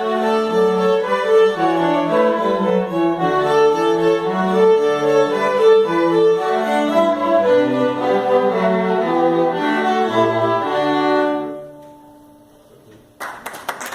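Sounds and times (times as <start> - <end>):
string quartet playing: 0.0 - 12.4.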